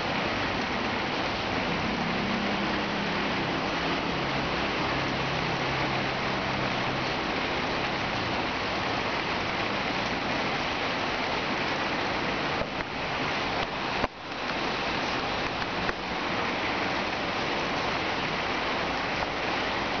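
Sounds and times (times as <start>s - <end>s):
steady hissing noise: 0.0s - 20.0s.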